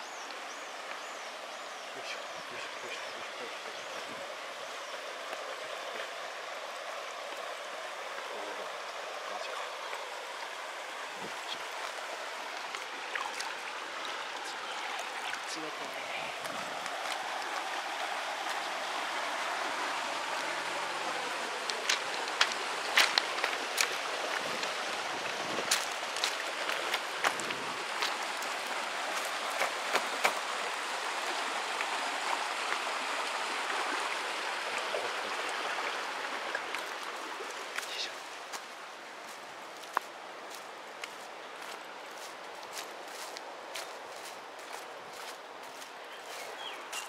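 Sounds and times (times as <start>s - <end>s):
river water running: 0.0s - 47.0s.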